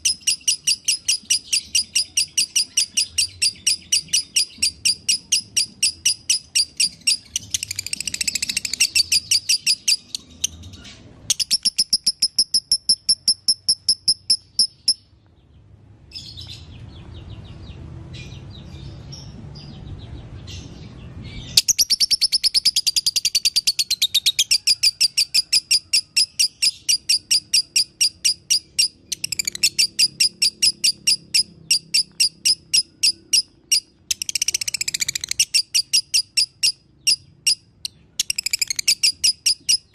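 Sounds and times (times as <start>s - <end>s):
lovebird shrill chirps: 0.0s - 10.5s, 11.3s - 15.0s, 21.6s - 39.9s.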